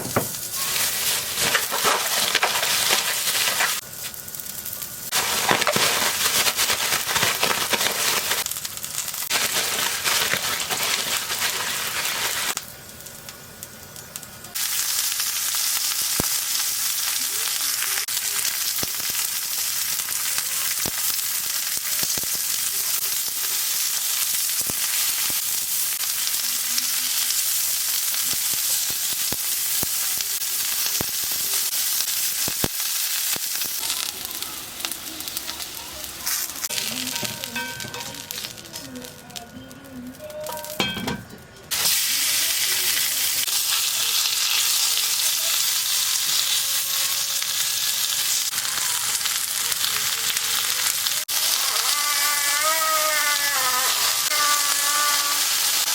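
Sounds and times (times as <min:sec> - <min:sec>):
food sizzling in a frying pan: 0:00.0 - 0:55.9.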